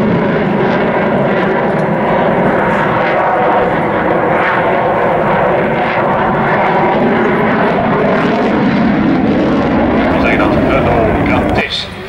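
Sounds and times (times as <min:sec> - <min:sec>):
aircraft engine drone overhead: 0:00.0 - 0:12.0.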